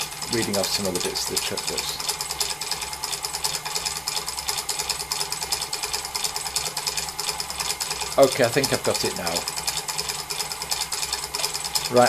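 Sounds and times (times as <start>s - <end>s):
fast even rattle: 0.0s - 12.0s
lathe running: 0.0s - 12.0s.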